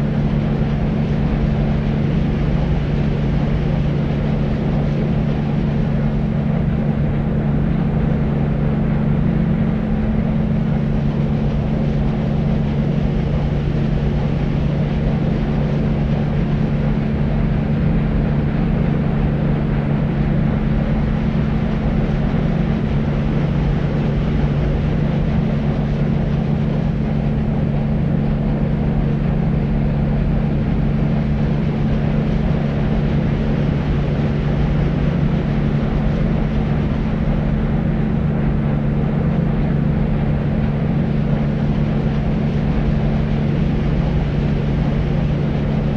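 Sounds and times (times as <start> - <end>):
constant low hum: 0.0 - 45.9
deep white noise rumble: 0.0 - 45.9.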